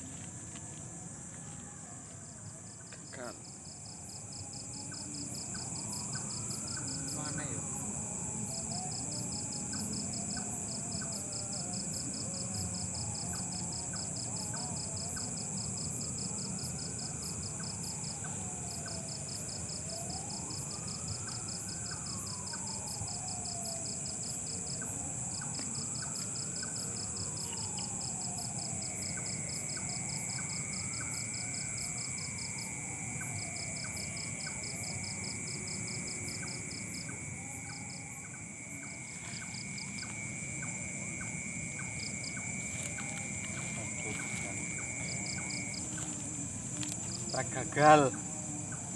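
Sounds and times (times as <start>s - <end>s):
crickets chirping: 0.0s - 48.9s
high insect drone: 0.0s - 48.9s.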